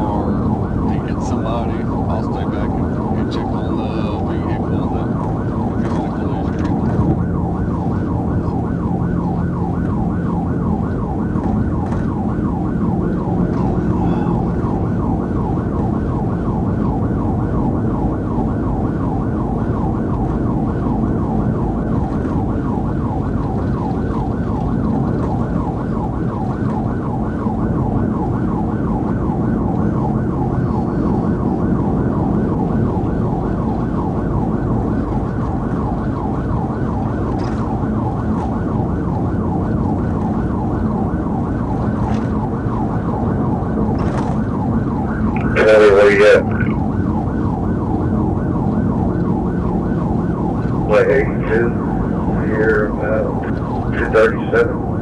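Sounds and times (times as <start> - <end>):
car engine and road noise: 0.0 - 55.0
police siren yelping: 0.0 - 55.0.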